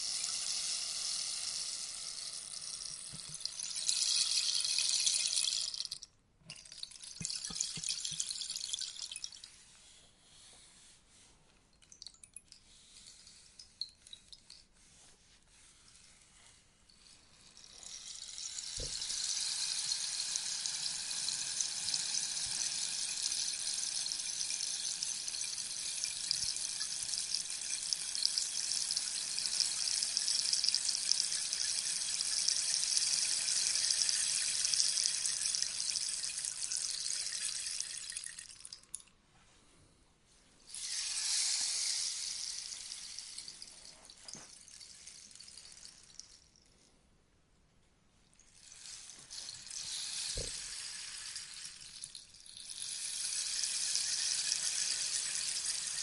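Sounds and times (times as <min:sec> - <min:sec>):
rainstick pellets cascading: 0:00.0 - 0:09.5, 0:16.9 - 0:39.1, 0:40.7 - 0:46.9, 0:48.4 - 0:56.0.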